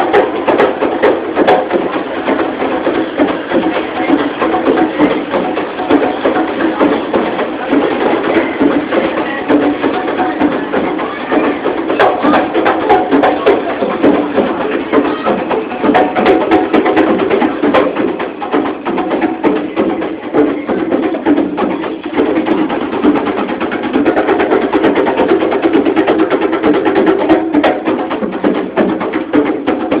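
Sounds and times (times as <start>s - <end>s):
hand drums playing rhythm: 0.0s - 30.0s.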